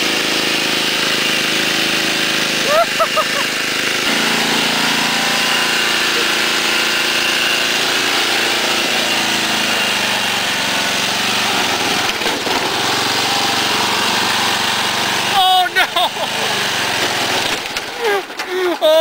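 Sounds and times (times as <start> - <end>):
lawn tractor engine running: 0.0 - 19.0.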